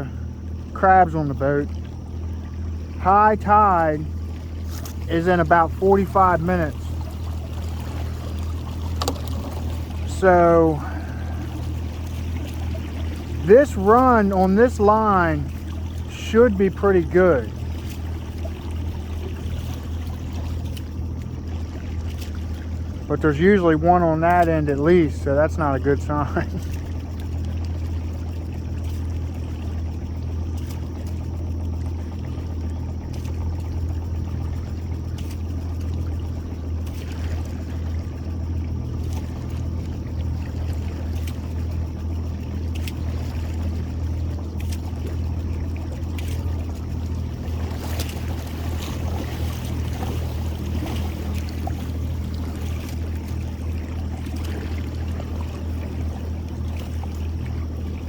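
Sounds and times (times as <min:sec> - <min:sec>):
boat motor running: 0:00.0 - 0:58.0
water noise: 0:00.0 - 0:58.0.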